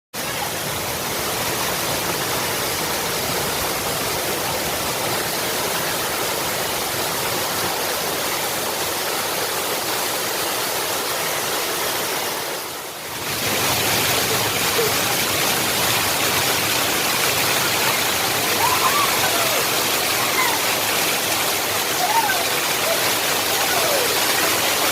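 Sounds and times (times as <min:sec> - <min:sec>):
floodwater rushing and splashing: 0:00.2 - 0:24.9.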